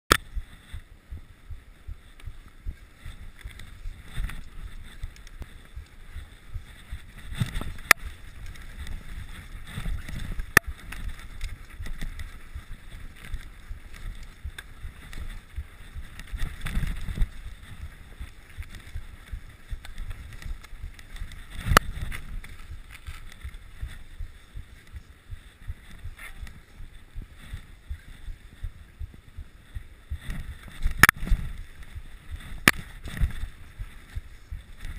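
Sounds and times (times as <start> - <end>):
bike tyres rumbling over snow: 0.2 - 34.9
wind buffeting microphone: 0.2 - 34.9.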